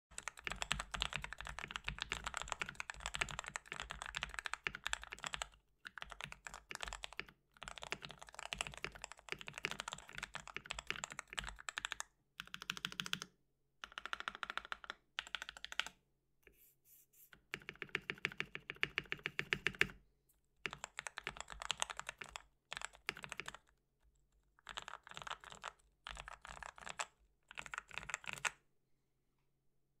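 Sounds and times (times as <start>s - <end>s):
mechanical keyboard typing: 0.1s - 15.9s, 17.5s - 20.0s, 20.7s - 23.7s, 24.6s - 28.6s.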